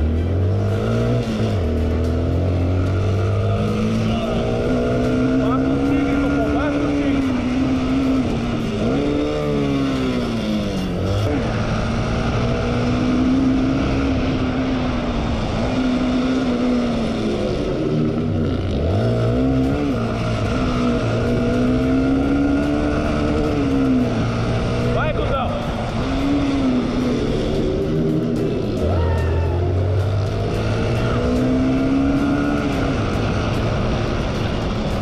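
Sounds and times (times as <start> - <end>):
heavy rushing noise: 0.0 - 35.0
motorcycle engine revving: 0.0 - 35.0.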